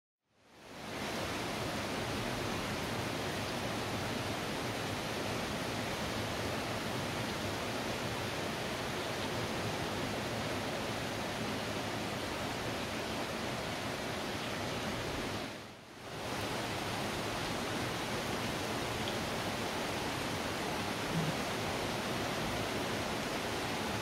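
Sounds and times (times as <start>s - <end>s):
rain falling: 0.5s - 24.0s.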